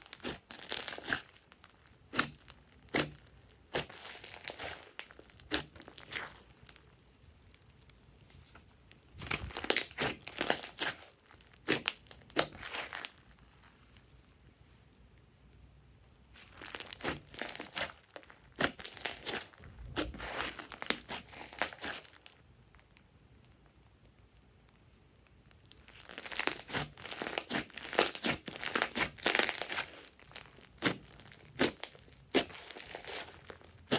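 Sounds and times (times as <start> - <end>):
slime squished by hand: 0.0 - 14.1, 16.3 - 22.4, 25.5 - 33.9.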